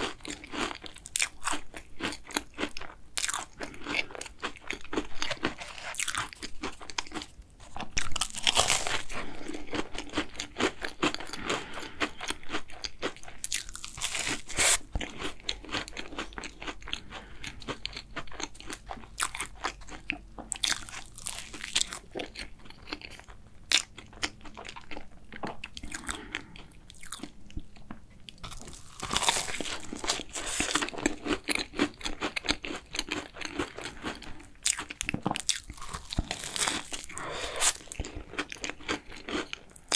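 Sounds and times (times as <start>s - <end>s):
chewing crunchy cookie: 0.0s - 39.9s.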